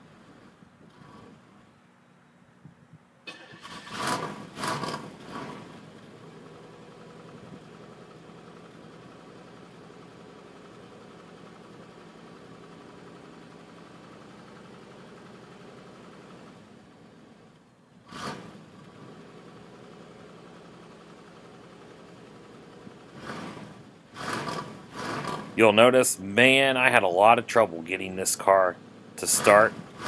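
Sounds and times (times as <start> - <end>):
car engine starting and idling: 3.2 - 30.0.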